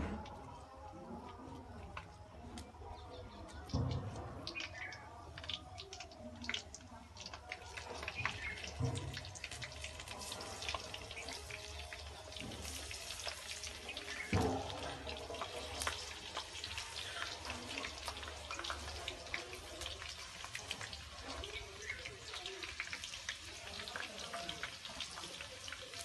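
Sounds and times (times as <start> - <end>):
okra sizzling in hot oil: 3.0 - 26.0.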